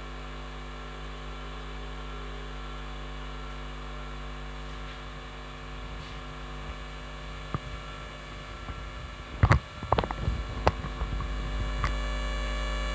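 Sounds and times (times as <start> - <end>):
electrical mains hum: 0.0 - 12.9.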